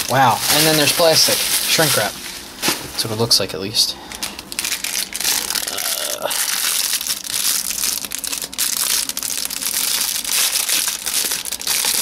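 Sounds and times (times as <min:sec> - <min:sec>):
plastic wrap crinkling: 0:00.0 - 0:03.4, 0:04.1 - 0:12.0.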